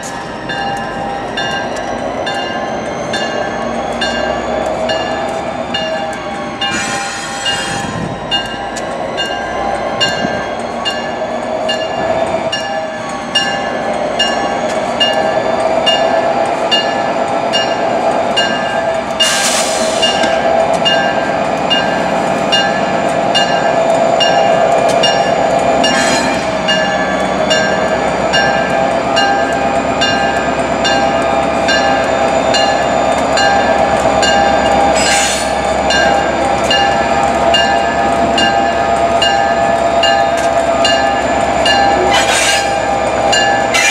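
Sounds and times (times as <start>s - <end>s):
diesel locomotive engine drone: 0.0s - 43.9s
locomotive bell ringing: 0.0s - 43.9s.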